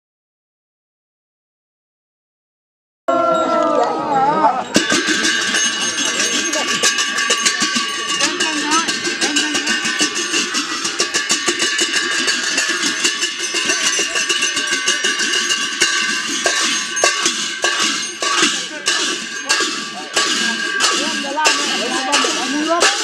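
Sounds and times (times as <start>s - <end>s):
ringing metal percussion: 3.1s - 23.0s
voices calling and chanting: 3.1s - 23.0s.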